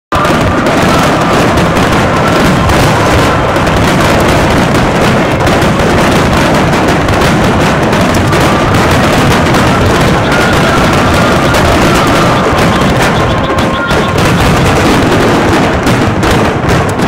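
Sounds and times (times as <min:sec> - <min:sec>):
fireworks bursting and crackling: 0:00.1 - 0:17.0.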